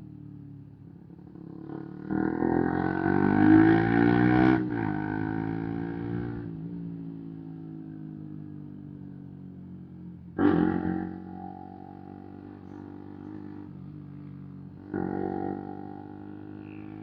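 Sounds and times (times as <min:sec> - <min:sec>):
motorcycle engine revving: 0:00.6 - 0:08.6, 0:10.2 - 0:17.0.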